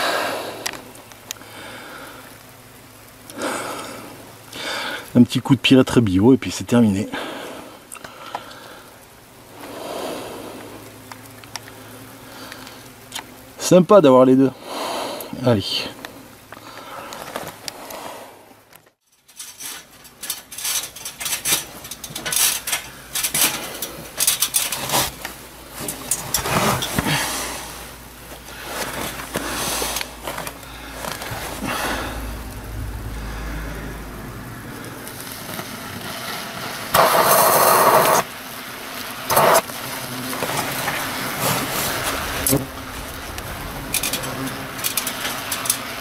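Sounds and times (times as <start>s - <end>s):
insecticide puffing rush: 0.0s - 5.2s, 7.1s - 13.6s, 14.5s - 18.7s, 24.8s - 46.0s.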